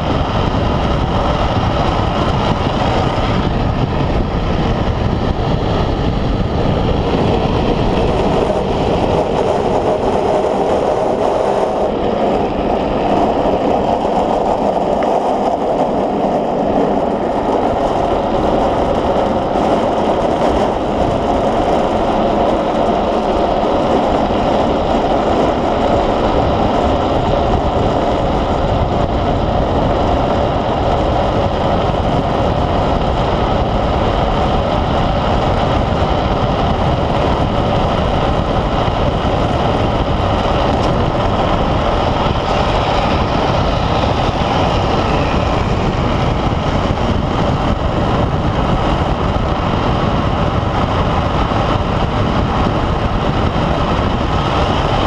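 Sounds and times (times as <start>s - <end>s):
wheels rolling on asphalt: 0.0s - 55.0s
wind rushing: 0.0s - 55.0s.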